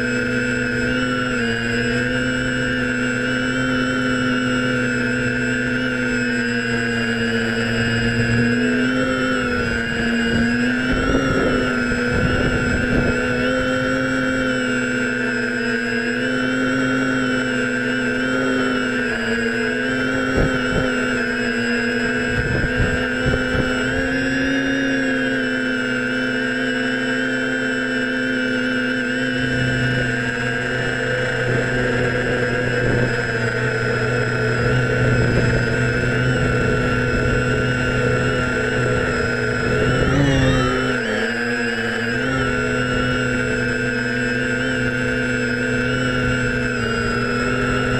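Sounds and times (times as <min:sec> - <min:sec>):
wind rumbling on microphone: 0:00.0 - 0:15.6, 0:18.0 - 0:25.6, 0:29.3 - 0:47.9
drone motors whining: 0:00.0 - 0:47.9.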